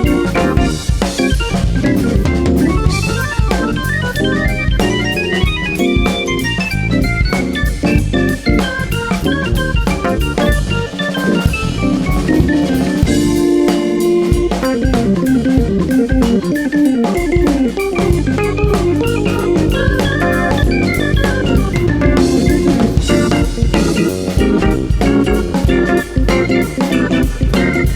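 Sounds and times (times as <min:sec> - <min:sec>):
jazz fusion band playing: 0:00.0 - 0:27.9.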